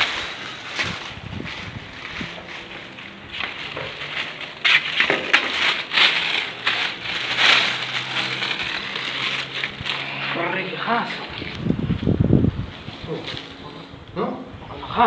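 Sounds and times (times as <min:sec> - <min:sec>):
crunching and rustling: 0:00.0 - 0:13.9.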